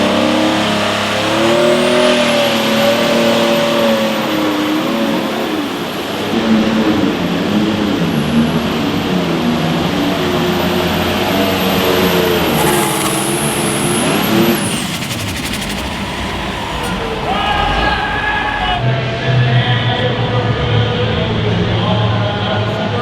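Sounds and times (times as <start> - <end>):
vehicle engine revving hard: 0.0 - 22.0.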